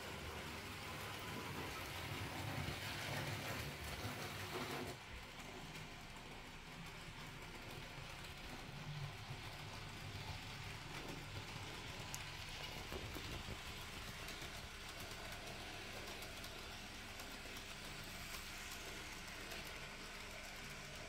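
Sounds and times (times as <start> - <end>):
model train motor whirring: 0.0 - 21.0.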